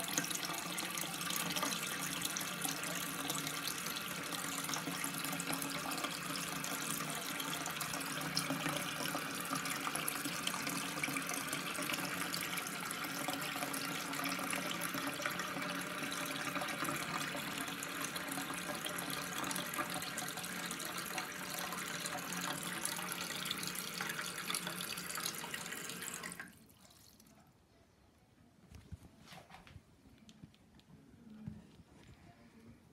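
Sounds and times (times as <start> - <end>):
toilet cistern refilling: 0.0 - 27.2.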